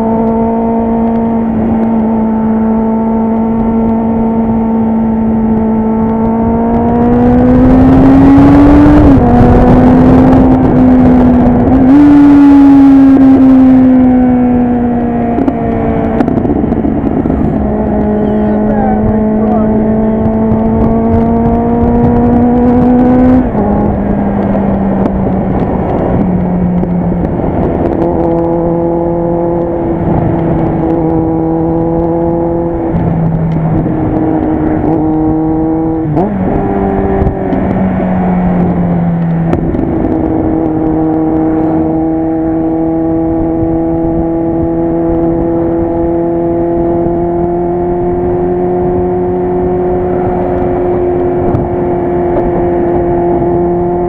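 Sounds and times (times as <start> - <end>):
motorcycle engine revving: 0.0 - 54.0
rush of wind: 0.0 - 54.0.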